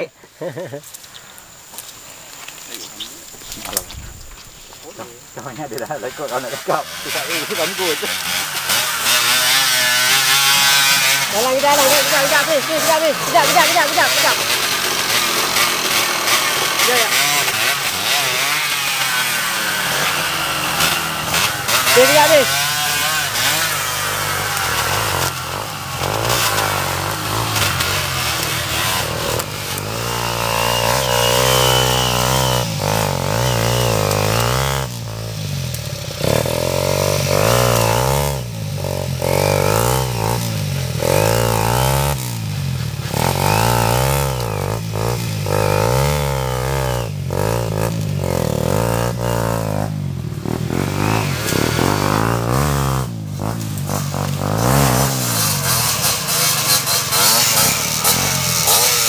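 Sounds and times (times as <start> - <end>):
dirt bike engine revving: 1.5 - 59.0.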